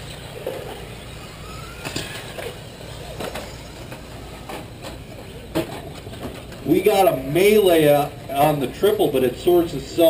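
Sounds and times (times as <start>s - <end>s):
faint motor whine: 0.0s - 10.0s.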